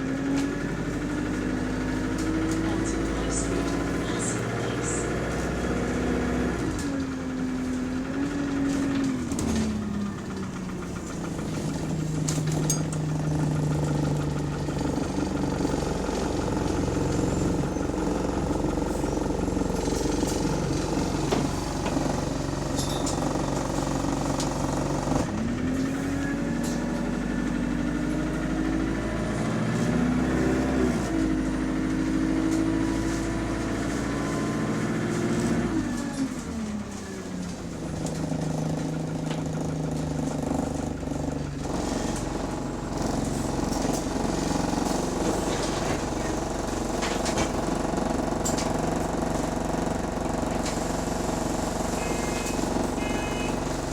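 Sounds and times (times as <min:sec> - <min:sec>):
bus engine: 0:00.0 - 0:53.9.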